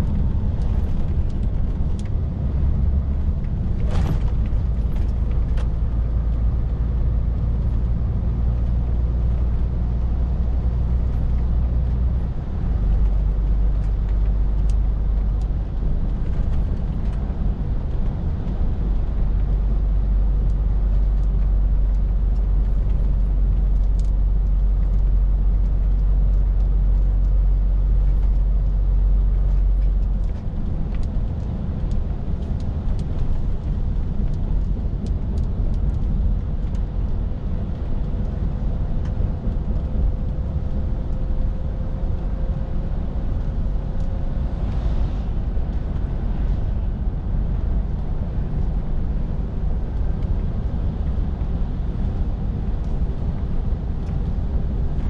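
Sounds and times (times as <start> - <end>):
lorry diesel engine drone: 0.0 - 55.0
road noise: 0.0 - 55.0.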